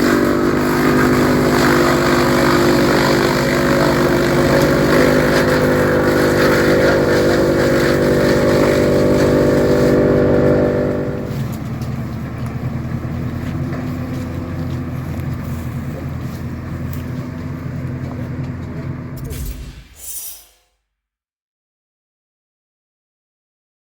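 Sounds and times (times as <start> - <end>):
woodchipper machine hum: 0.0 - 19.4.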